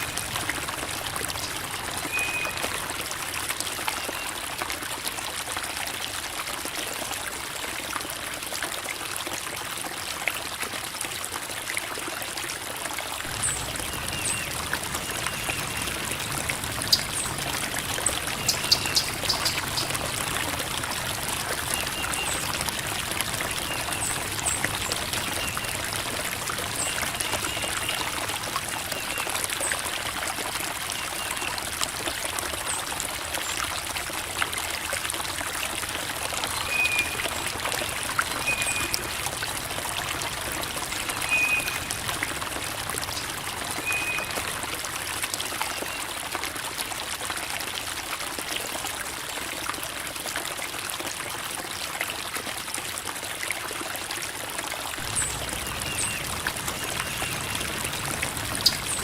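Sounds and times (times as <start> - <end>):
creek water babbling over rocks: 0.0 - 59.0.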